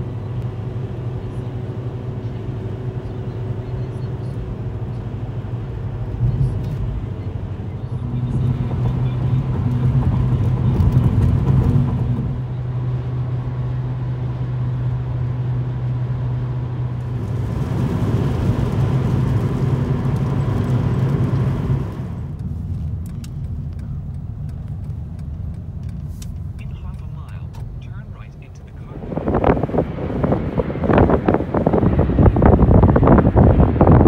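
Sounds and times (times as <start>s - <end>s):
low engine hum: 0.0s - 34.0s
road and tyre noise: 0.0s - 34.0s.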